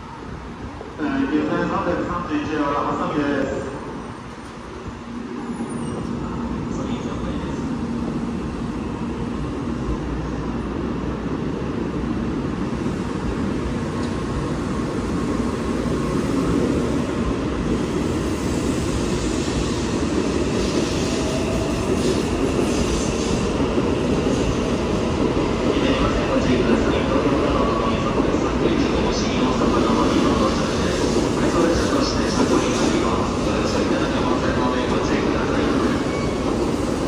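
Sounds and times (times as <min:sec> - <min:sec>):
train wheels rumbling: 0:03.6 - 0:37.0.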